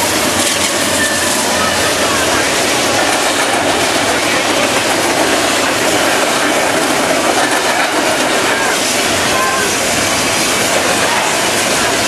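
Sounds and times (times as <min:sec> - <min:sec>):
freight train wheels on rails: 0:00.0 - 0:12.0.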